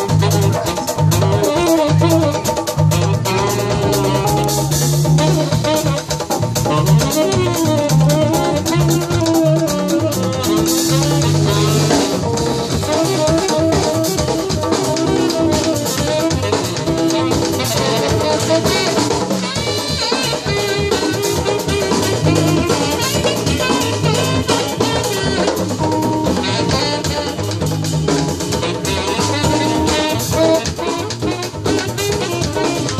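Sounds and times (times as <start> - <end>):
drum kit: 0.0 - 32.9
hand drums: 0.0 - 32.9
piano: 0.0 - 32.9
saxophone: 0.0 - 32.9.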